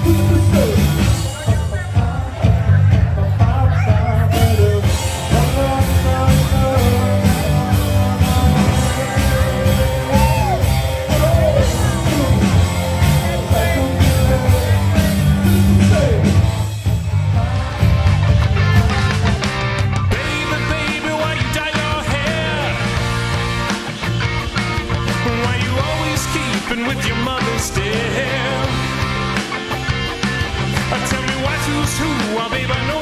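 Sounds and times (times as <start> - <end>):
person singing: 0.0 - 23.8, 24.6 - 29.4, 30.7 - 33.0
rock band playing: 0.0 - 33.0.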